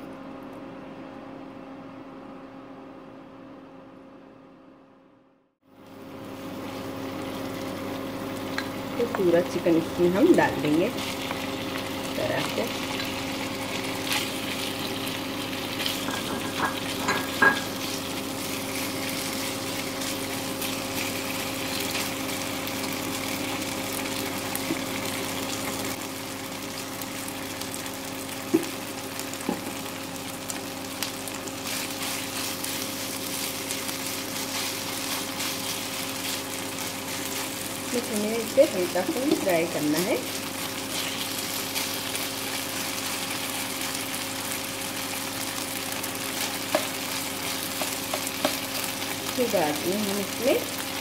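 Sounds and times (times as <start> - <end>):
chicken sizzling in oil: 5.7 - 51.0.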